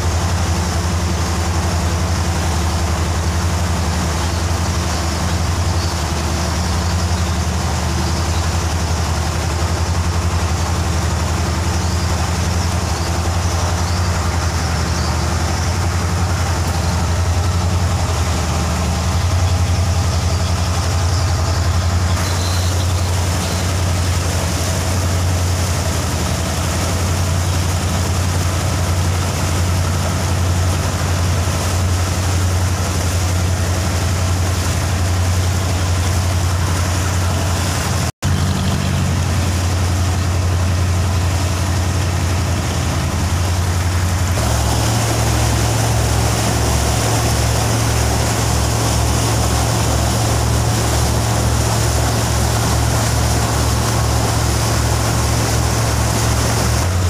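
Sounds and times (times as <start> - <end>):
boat diesel engine droning: 0.0 - 57.0
hiss of water and wind: 0.0 - 57.0.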